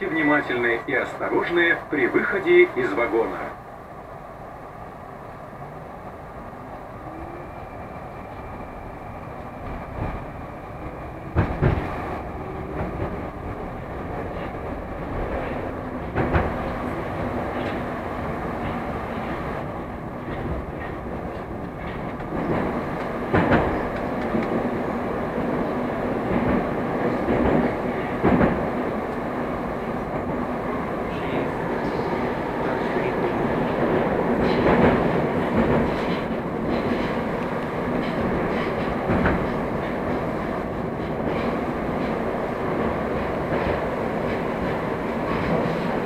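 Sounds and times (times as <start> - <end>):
train rumble and hiss in tunnel: 0.0 - 46.0.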